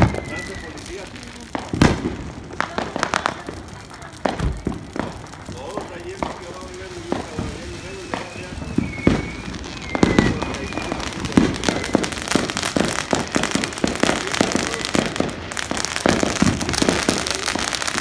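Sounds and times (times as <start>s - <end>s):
fireworks crackling: 0.0s - 18.0s
fireworks pops and bangs: 0.0s - 18.0s.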